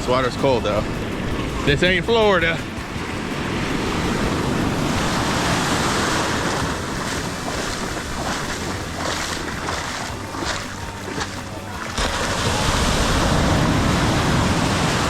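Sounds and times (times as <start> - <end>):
ocean surf breaking on beach: 0.0 - 15.0
wind on microphone: 0.0 - 15.0.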